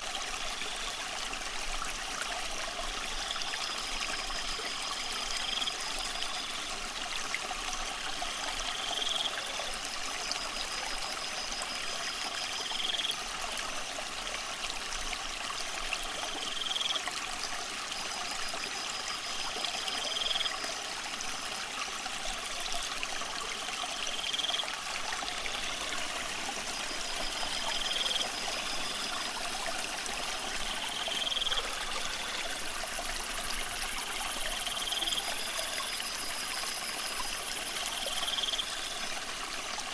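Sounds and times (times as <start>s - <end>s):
aquarium water trickling and splashing: 0.0s - 39.9s.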